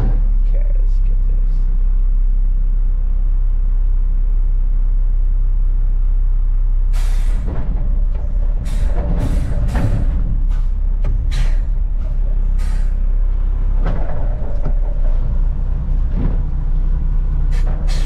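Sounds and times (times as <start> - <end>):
diesel truck engine rumble: 0.0 - 18.0.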